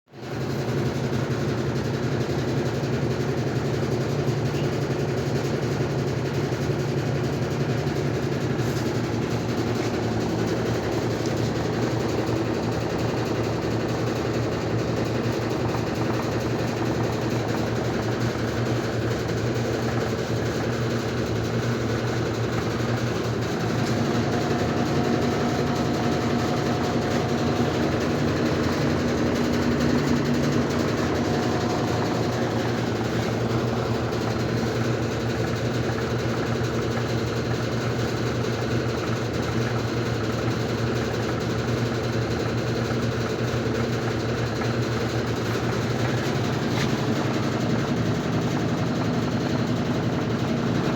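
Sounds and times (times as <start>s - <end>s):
washing machine spinning: 0.2s - 50.9s.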